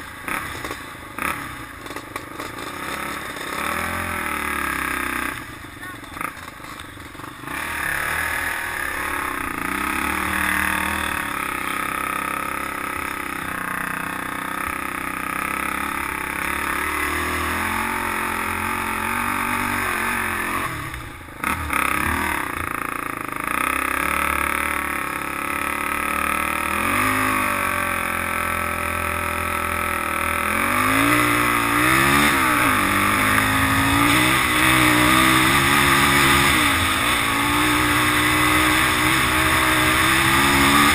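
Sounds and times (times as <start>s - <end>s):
quad bike engine revving: 0.0s - 40.9s.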